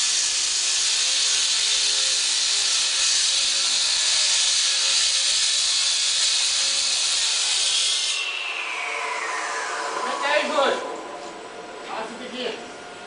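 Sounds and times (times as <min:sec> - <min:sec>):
concrete saw grinding: 0:00.0 - 0:12.4.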